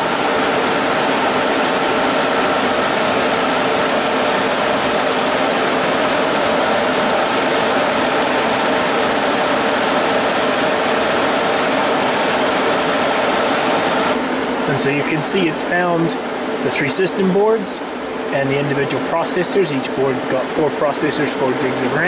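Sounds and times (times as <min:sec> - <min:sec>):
cooling fans whirring: 0:00.0 - 0:22.0.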